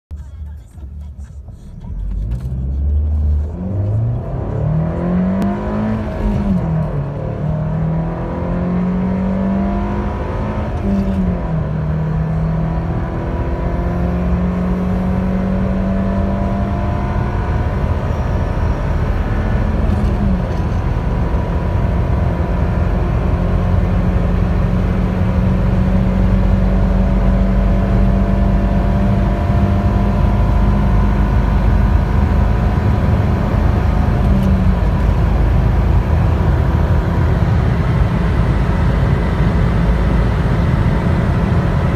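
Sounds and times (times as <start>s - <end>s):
car engine accelerating: 0.1s - 41.9s.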